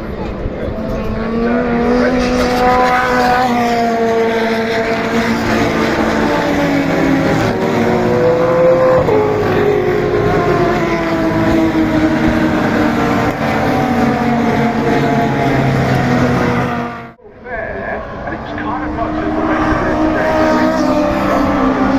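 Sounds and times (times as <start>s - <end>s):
race car engines high-revving: 0.0s - 17.2s, 17.8s - 21.9s.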